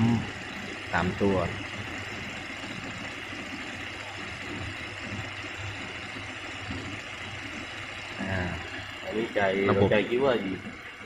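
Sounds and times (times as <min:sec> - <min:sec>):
electric misting pumps humming: 0:00.0 - 0:11.0.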